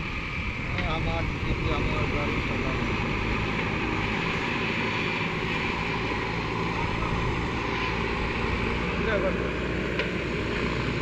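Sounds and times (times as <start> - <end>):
diesel machinery engine running: 0.0 - 11.0.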